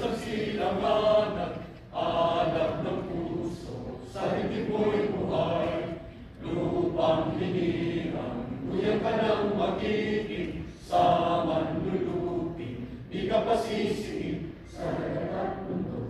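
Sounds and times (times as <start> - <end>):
assembly singing a hymn: 0.0 - 16.0.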